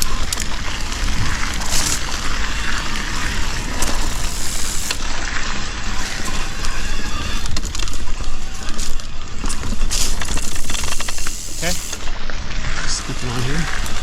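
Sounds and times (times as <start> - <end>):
wind rumble on microphone: 0.0 - 13.0
bike clicks and rattles: 0.0 - 14.0
bike tyres crunching on gravel: 0.0 - 14.0.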